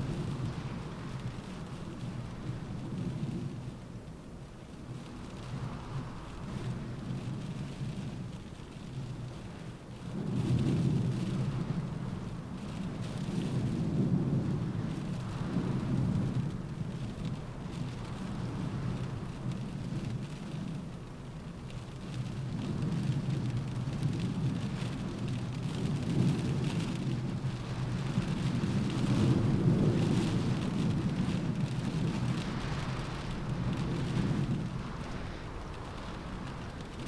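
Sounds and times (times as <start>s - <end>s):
rain on a window: 0.0s - 37.0s.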